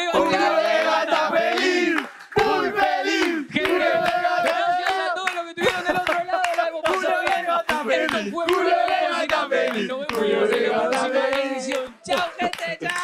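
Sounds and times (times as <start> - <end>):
men chanting: 0.0 - 13.0
hand claps: 0.8 - 13.0.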